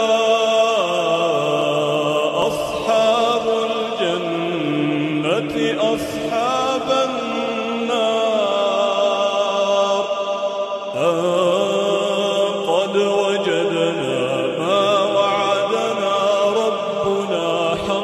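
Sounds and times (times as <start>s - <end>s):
man chanting melodically: 0.0s - 18.0s.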